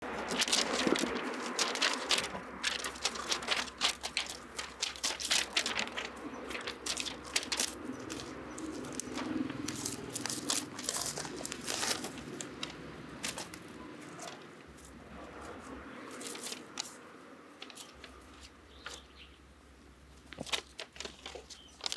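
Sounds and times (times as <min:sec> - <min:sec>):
kitten tussling with crinkly toy: 0:00.0 - 0:15.0, 0:15.6 - 0:17.0, 0:20.1 - 0:21.9.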